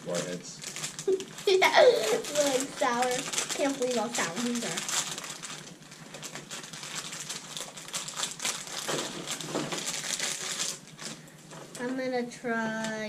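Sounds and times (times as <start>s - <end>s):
plastic candy bag crinkling: 0.0s - 11.9s.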